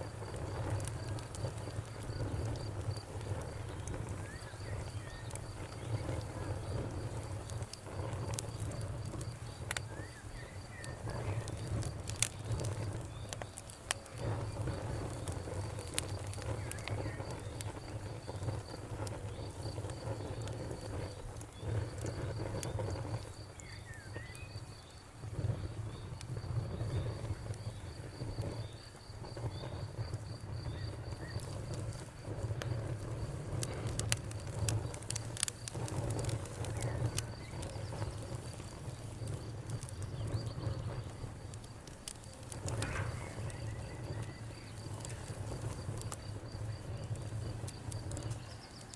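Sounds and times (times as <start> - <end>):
cricket chirping: 0.0 - 48.9
wood fire crackling: 0.0 - 48.9.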